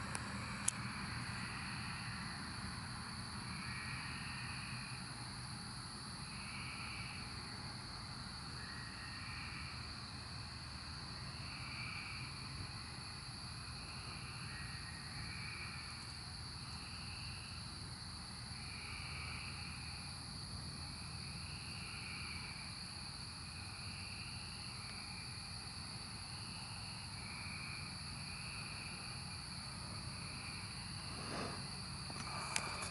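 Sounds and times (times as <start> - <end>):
cicadas droning: 0.0 - 32.9
lower cicada call: 0.0 - 32.9.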